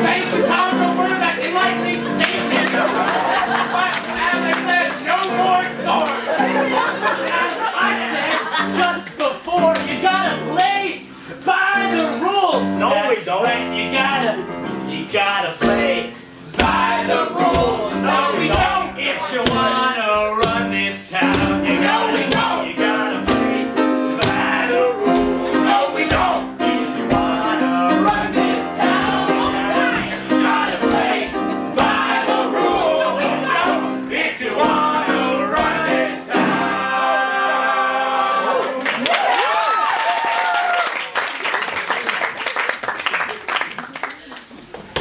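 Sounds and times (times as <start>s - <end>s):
voices singing together: 0.0s - 10.4s, 11.7s - 39.1s.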